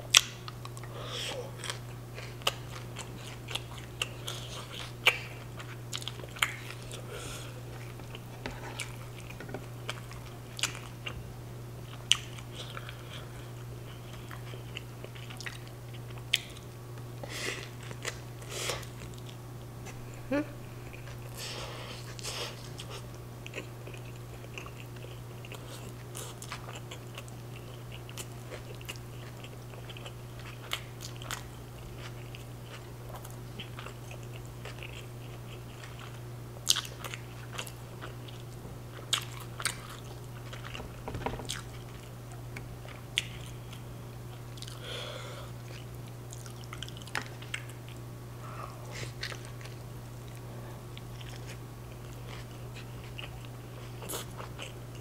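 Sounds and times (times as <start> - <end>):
chewing and biting tacos: 0.1 - 11.2, 11.8 - 16.8, 20.8 - 44.9, 45.6 - 48.1, 48.8 - 55.0.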